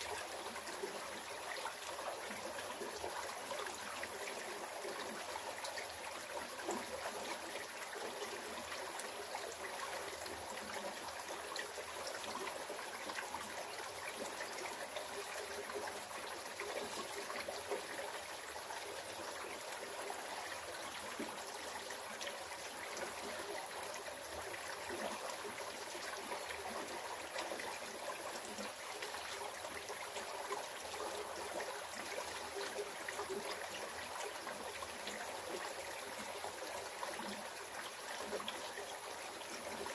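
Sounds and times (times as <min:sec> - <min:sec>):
creek trickling over rocks: 0:00.0 - 0:39.9.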